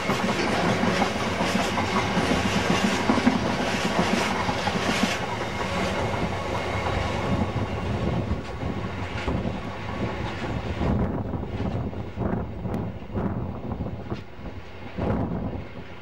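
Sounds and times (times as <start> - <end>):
steady train rumble: 0.0 - 16.0
train wheels clattering on rails: 0.0 - 16.0.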